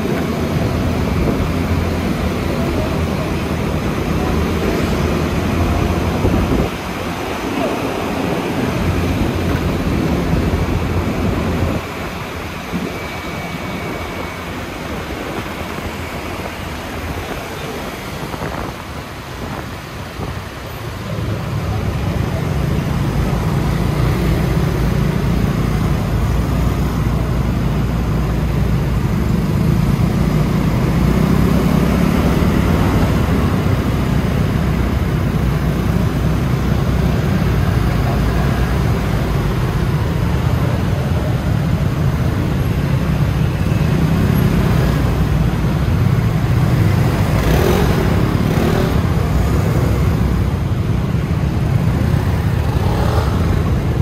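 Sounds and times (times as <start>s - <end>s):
scooter engine rumble: 0.0s - 54.0s
traffic: 0.0s - 54.0s.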